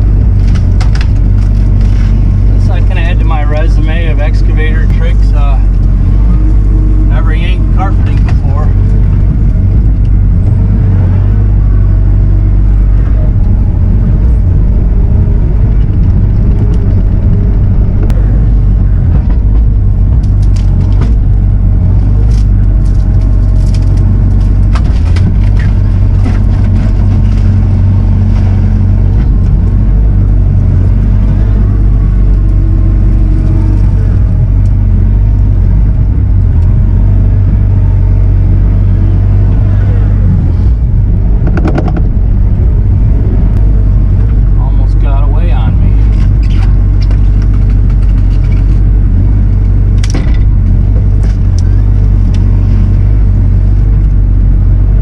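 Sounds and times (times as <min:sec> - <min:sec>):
diesel engine running loudly: 0:00.0 - 0:55.0.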